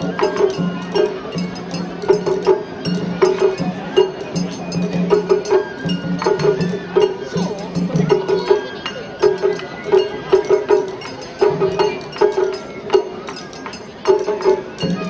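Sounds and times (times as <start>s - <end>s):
drum strikes: 0.0s - 15.0s.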